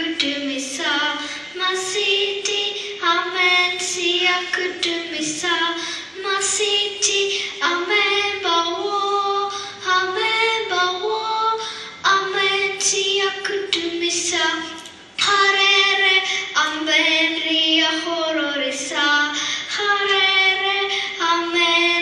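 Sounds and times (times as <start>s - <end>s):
girl singing: 0.0s - 22.0s.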